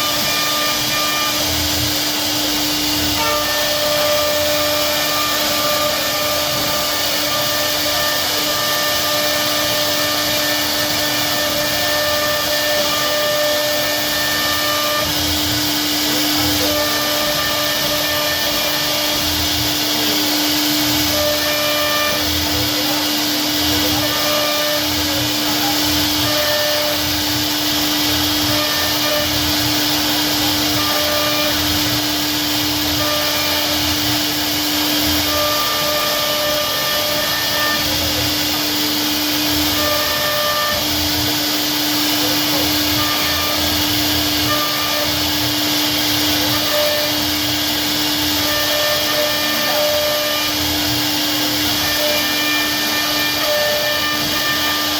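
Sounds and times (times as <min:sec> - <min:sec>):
cnc router spindle whirring: 0:00.0 - 0:54.9.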